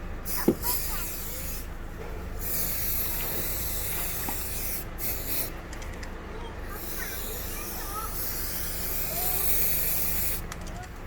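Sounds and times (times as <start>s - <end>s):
aerosol can spraying: 0.3s - 5.6s, 6.7s - 10.6s.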